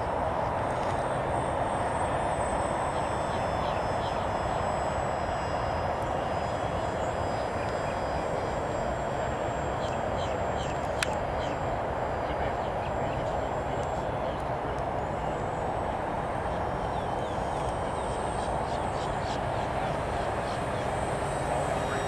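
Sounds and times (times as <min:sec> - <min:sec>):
model plane motor whine: 0:00.0 - 0:22.0.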